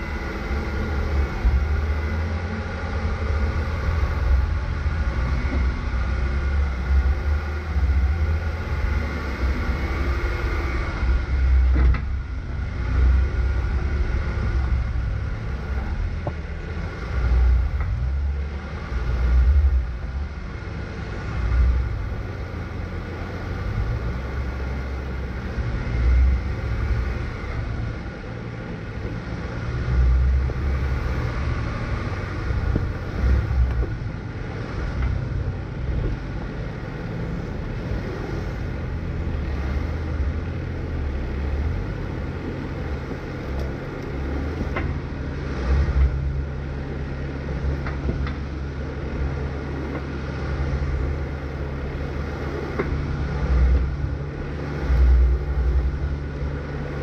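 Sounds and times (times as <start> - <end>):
off-road vehicle engine rumble: 0.0 - 57.0.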